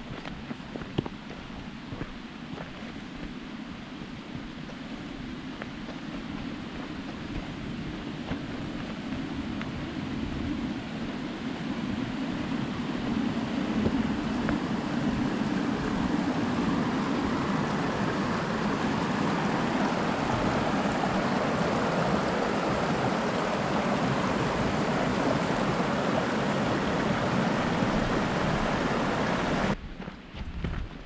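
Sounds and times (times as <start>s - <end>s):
creek running over rocks: 0.0s - 29.8s.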